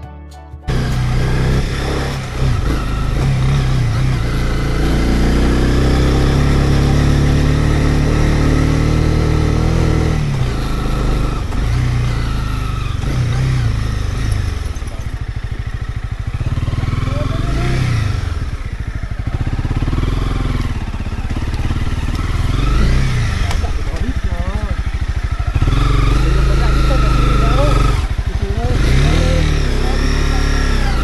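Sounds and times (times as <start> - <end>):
motorcycle engine pulling under load: 0.7 - 31.0.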